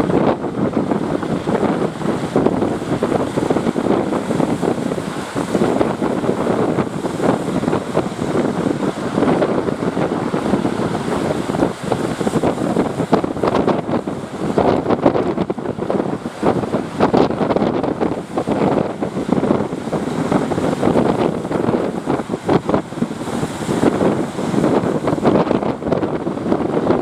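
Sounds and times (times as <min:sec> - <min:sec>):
sea waves washing: 0:00.0 - 0:27.0
wind buffeting microphone: 0:00.0 - 0:27.0.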